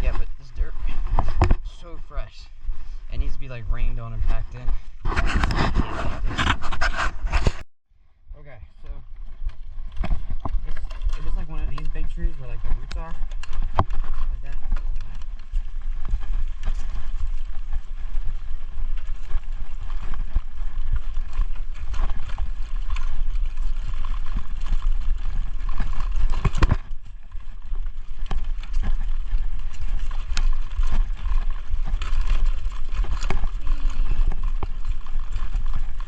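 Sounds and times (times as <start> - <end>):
wind rumbling on microphone: 0.0 - 7.6, 8.3 - 36.0.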